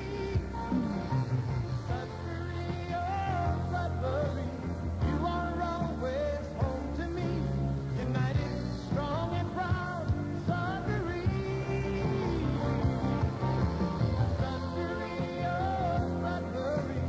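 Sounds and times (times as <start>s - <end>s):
radio music with gliding melody: 0.0s - 17.0s.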